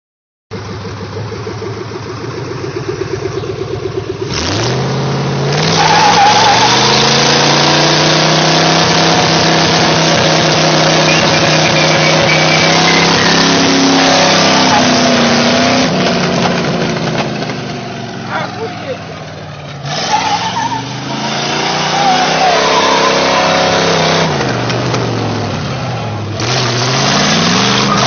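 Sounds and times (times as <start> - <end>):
car engine revving: 0.5 - 28.0.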